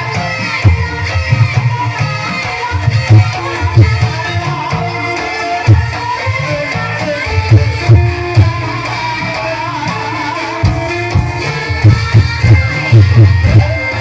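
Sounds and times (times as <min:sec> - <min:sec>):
hand-drum strokes: 0:00.0 - 0:14.0.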